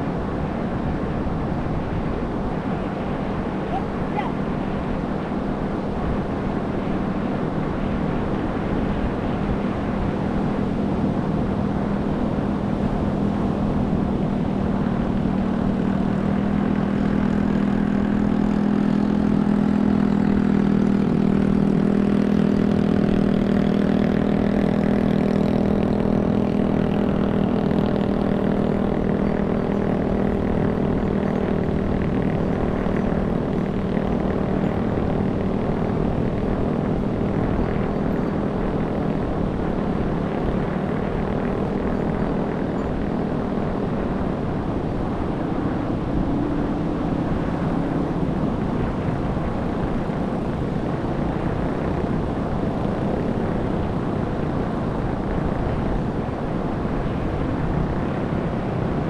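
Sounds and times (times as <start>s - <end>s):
engine drone: 0.0s - 59.0s.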